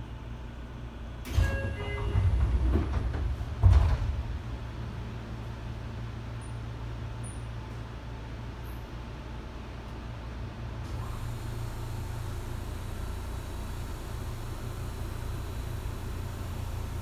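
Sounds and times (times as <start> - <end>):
low train hum: 0.0 - 17.0.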